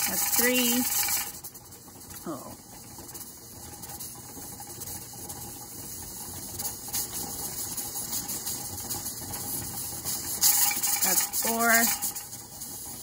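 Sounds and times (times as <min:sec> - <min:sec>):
steam hissing from pressure canner: 0:00.0 - 0:13.0.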